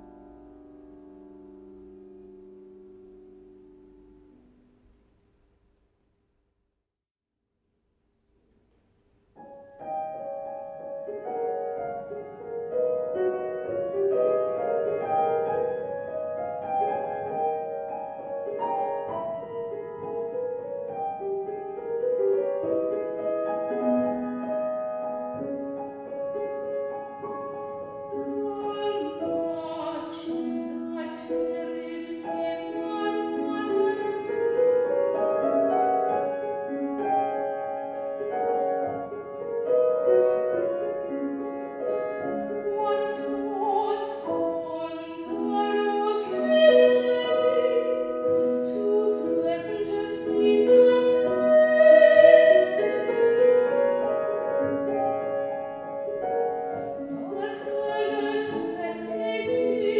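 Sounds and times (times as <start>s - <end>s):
gentle piano: 0.0s - 5.2s, 9.3s - 59.9s
soprano singing: 9.8s - 59.9s.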